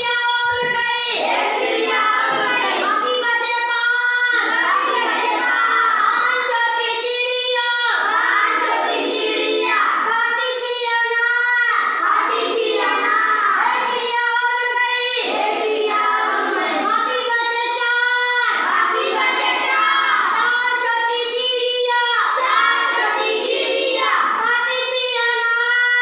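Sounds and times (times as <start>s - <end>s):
child singing: 0.0s - 26.0s.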